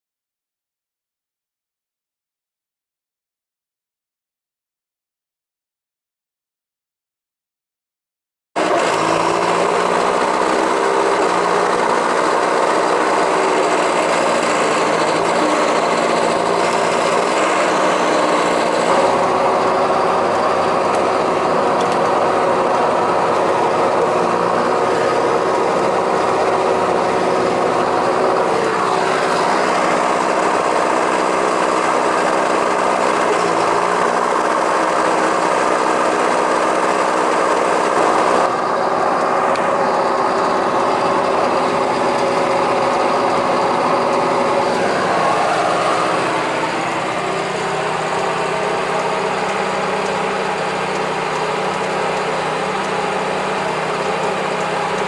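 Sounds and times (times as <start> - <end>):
muck spreader beaters flinging muck: 8.6 - 55.0
tractor diesel engine under load: 8.6 - 55.0.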